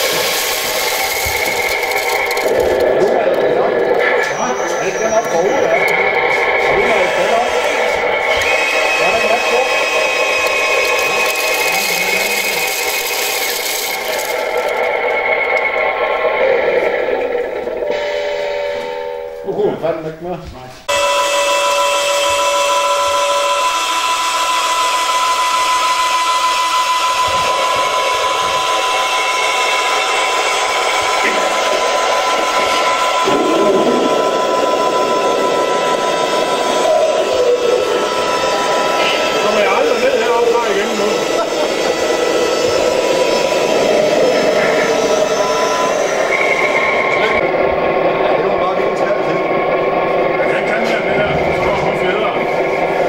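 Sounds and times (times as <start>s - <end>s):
electric hydraulic pump whining: 0.0s - 19.5s, 20.9s - 53.0s.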